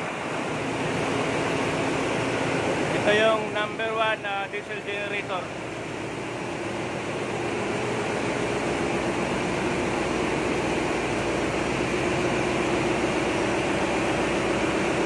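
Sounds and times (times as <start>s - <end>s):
diesel generator drone: 0.0s - 15.0s.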